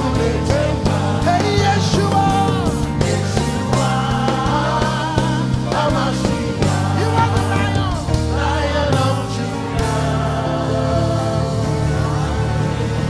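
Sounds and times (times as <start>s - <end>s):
drums struck: 0.0s - 13.0s
gospel band playing: 0.0s - 13.0s
many voices singing: 0.0s - 13.0s.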